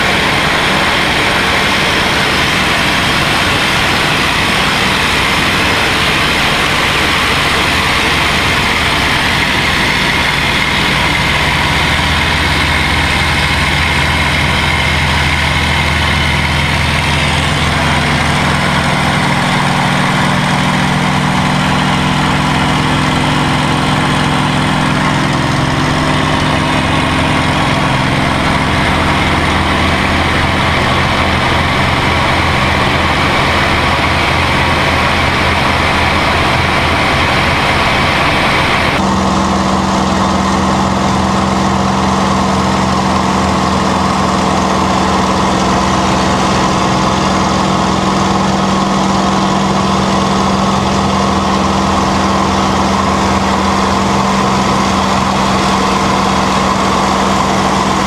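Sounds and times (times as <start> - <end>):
aircraft engine running in flight: 0.0 - 58.0.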